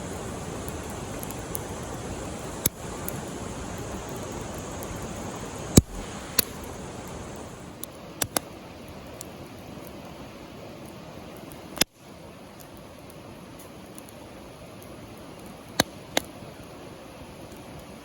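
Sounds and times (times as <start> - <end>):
fire crackling pops: 0.0 - 18.0
steady hiss: 0.0 - 18.0.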